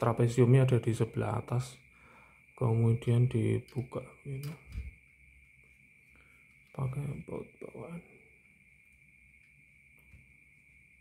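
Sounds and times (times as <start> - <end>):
faint high-pitched hum: 0.0 - 11.0.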